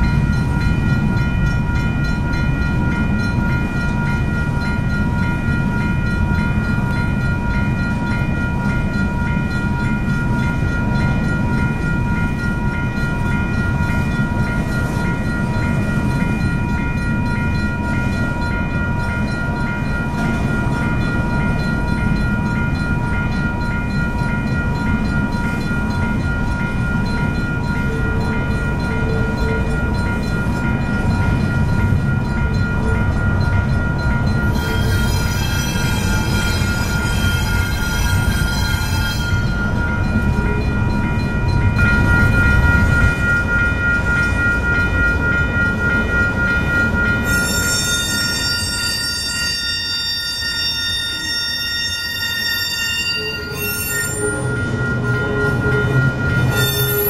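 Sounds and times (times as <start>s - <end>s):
crossing warning bell ringing: 0.0s - 57.0s
freight train rumbling on rails: 0.0s - 57.0s.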